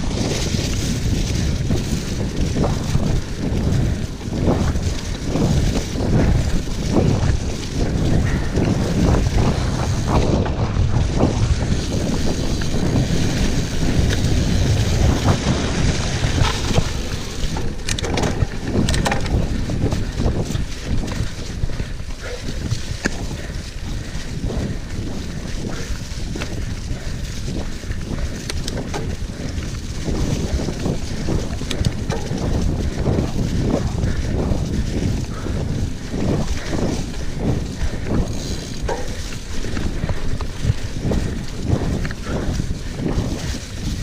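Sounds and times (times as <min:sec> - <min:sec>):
bike clicks and rattles: 0:00.0 - 0:44.0
bike tyres on dirt and leaves: 0:00.0 - 0:44.0
wind buffeting microphone: 0:00.0 - 0:44.0.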